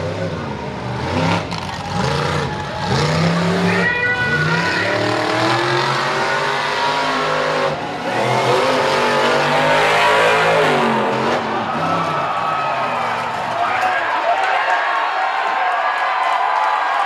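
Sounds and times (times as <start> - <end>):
truck engine revving hard: 0.0 - 13.9.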